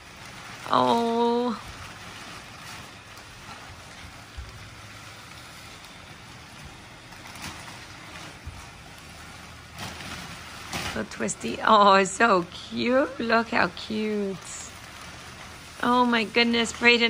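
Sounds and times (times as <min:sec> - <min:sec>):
blower fan rushing air: 0:00.0 - 0:17.0.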